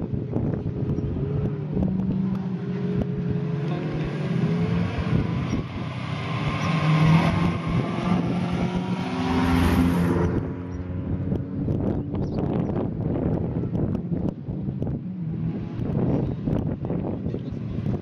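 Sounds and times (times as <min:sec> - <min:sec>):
car engine accelerating: 0:00.1 - 0:18.0.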